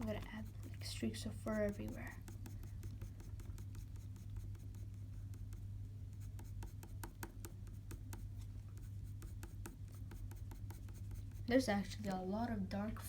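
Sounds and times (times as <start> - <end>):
pencil scratching on paper: 0.0 - 11.7
steady low hum: 0.0 - 13.0.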